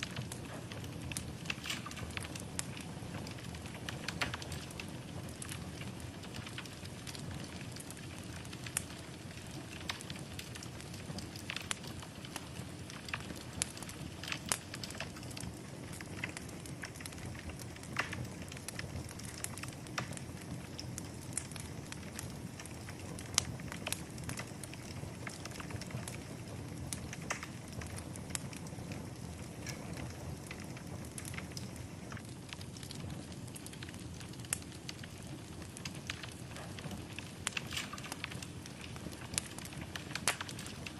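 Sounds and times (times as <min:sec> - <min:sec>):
fire crackling and popping: 0:00.0 - 0:40.9
fire rumbling and hissing: 0:00.0 - 0:40.9.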